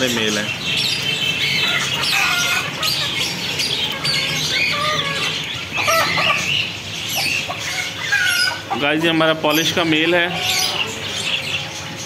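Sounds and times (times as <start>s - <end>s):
birds chirping and squawking: 0.0s - 12.0s
chickens clucking: 0.0s - 12.0s.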